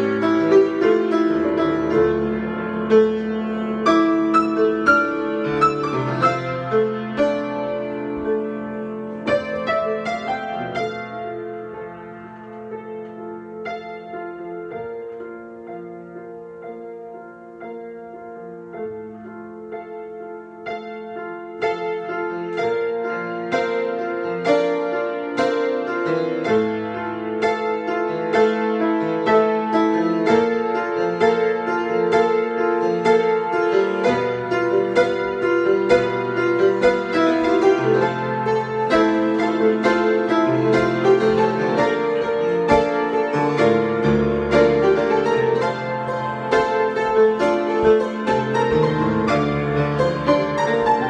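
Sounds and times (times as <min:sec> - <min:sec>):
solo piano improvisation: 0:00.0 - 0:51.0.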